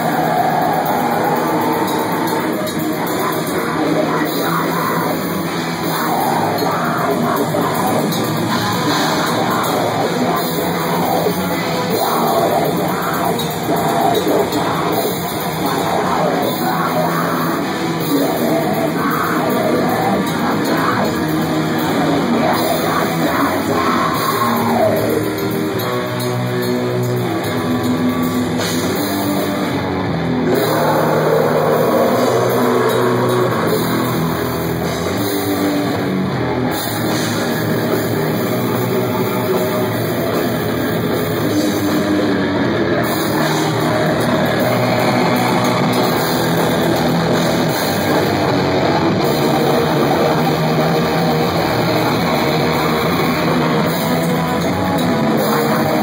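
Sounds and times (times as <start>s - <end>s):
bass guitar: 0.0s - 56.0s
drum kit: 0.0s - 56.0s
electric guitars: 0.0s - 56.0s
vocals: 0.0s - 56.0s.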